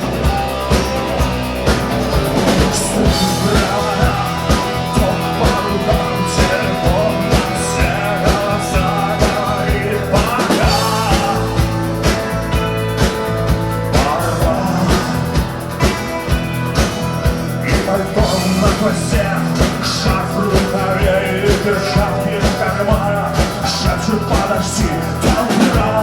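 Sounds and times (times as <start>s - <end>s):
drum kit beat: 0.0s - 26.0s
person singing: 0.0s - 26.0s
rock band playing: 0.0s - 26.0s.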